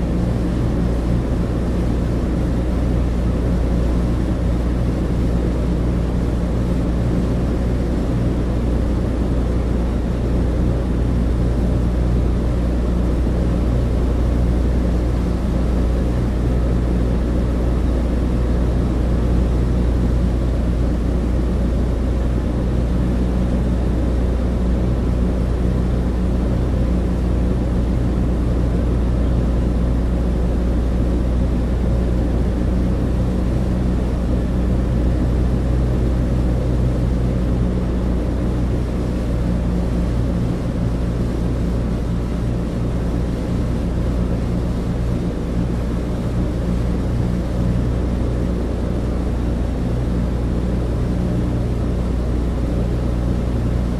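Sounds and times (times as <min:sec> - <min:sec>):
propeller engines droning: 0:00.0 - 0:53.9.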